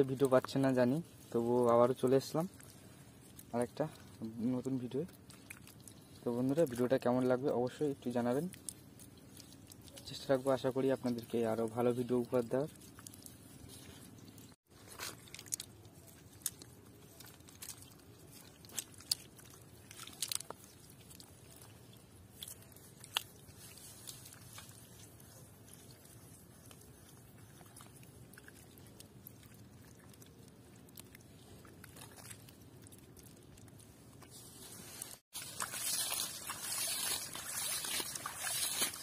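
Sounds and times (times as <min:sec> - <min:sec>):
wet clicks and crackles: 0:00.0 - 0:34.4, 0:35.0 - 0:39.0.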